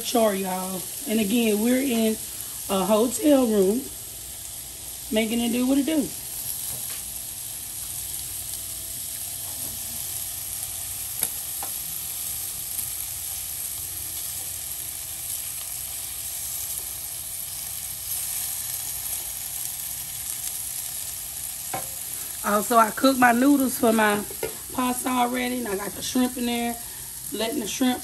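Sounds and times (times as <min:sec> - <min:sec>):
ribs sizzling on a grill: 0:00.0 - 0:28.0.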